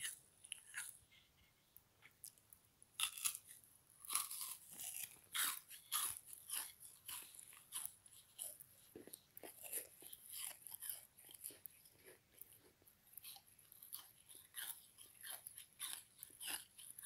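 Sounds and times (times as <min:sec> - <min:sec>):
crisp chewing crunches: 0:00.0 - 0:01.0, 0:03.0 - 0:17.0.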